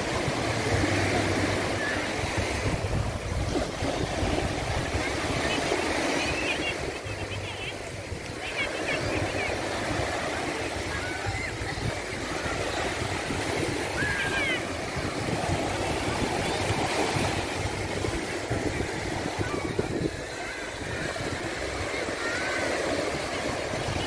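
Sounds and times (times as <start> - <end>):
waves washing on beach: 0.0 - 24.0
wind rumbling on microphone: 0.0 - 24.0.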